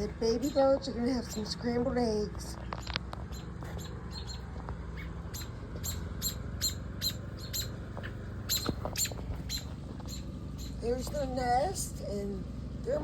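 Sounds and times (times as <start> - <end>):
baby birds cheeping: 0.0 - 11.7.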